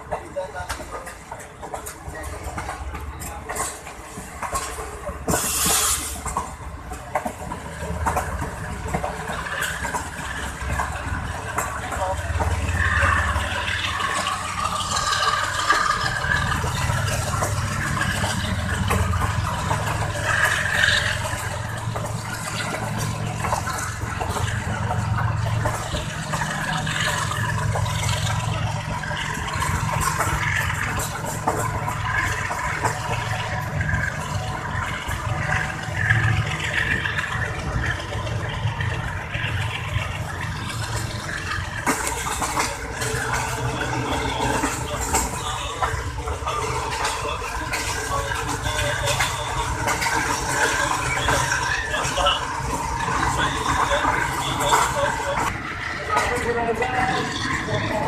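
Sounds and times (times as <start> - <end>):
train wheel and rail rumble: 0.0 - 58.0.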